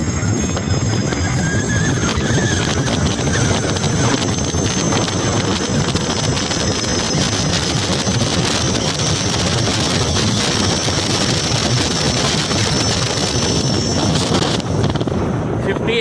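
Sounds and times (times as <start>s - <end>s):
electric motor high whistle: 0.0s - 15.1s
wind noise on microphone: 0.0s - 16.0s.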